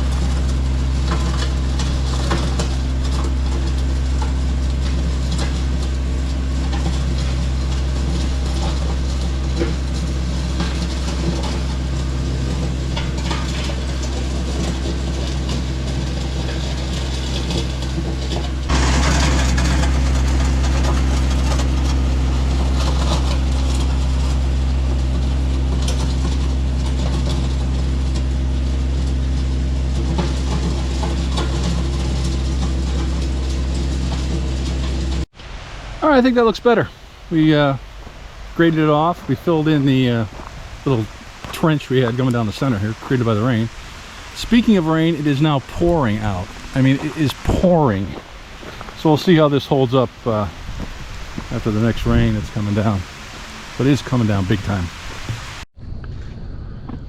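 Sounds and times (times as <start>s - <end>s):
rattling and clanking of gravel: 0.0s - 56.3s
tractor engine running: 0.0s - 57.0s.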